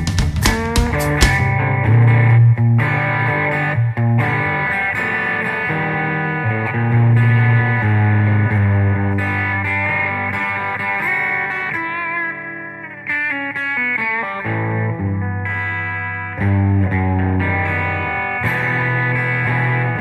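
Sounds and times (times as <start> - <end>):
electric guitar playing: 0.0 - 20.0.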